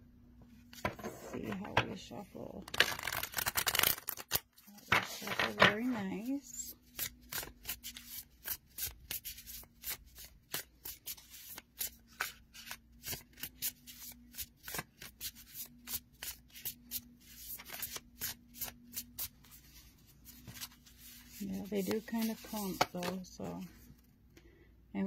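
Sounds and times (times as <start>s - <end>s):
cards being shuffled: 2.7s - 23.9s.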